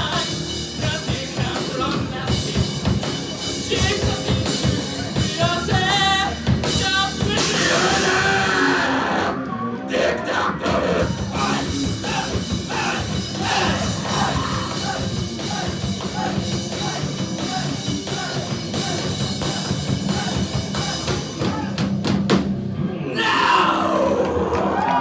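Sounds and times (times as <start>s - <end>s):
drum kit: 0.0s - 9.4s, 10.6s - 23.4s
person singing: 0.0s - 21.8s
electric guitars: 0.0s - 25.0s.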